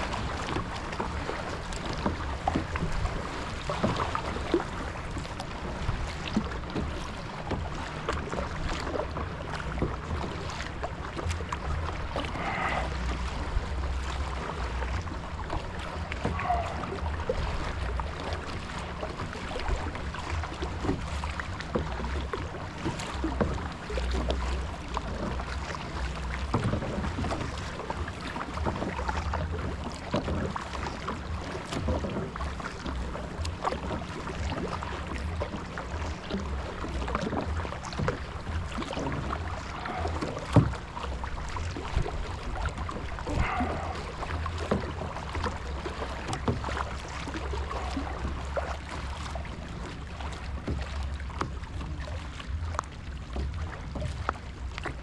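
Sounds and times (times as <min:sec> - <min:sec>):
paddle splashes and drips: 0:00.0 - 0:55.0
steady low rumble: 0:00.0 - 0:55.0.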